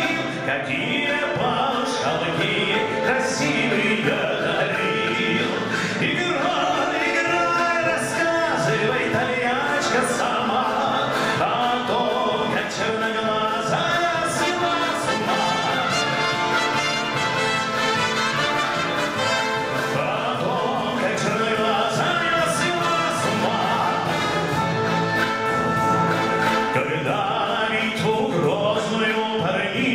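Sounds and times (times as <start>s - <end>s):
wind band playing: 0.0s - 12.4s, 13.0s - 27.8s
man singing: 0.0s - 25.5s, 26.1s - 29.9s.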